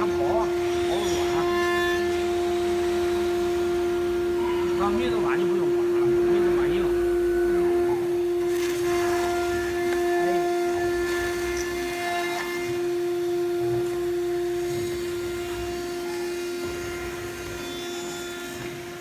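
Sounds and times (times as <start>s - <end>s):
router spindle motor whining: 0.0s - 19.0s.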